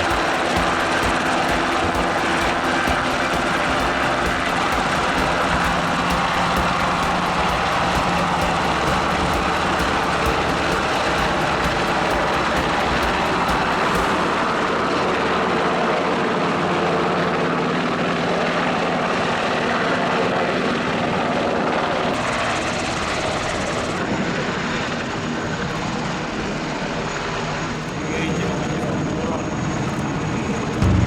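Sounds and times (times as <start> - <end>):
high steady whine: 0.0 - 16.5, 22.2 - 31.0
helicopter rotor and turbine: 0.0 - 31.0.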